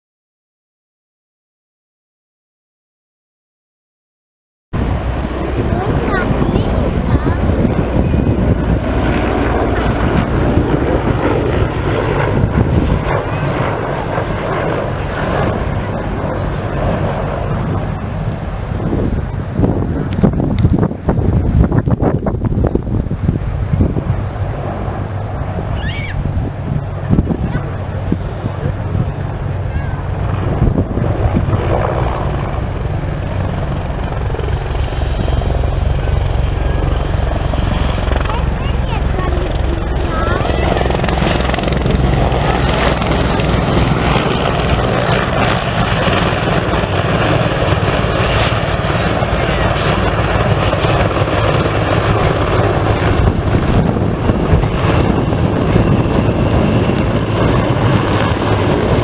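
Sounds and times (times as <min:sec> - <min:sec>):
helicopter rotor and turbine noise: 0:04.7 - 0:59.0.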